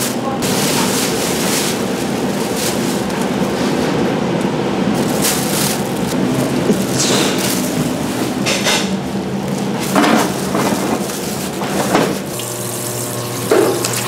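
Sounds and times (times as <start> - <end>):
plastic bags crinkling: 0.0 - 8.5, 9.3 - 12.7.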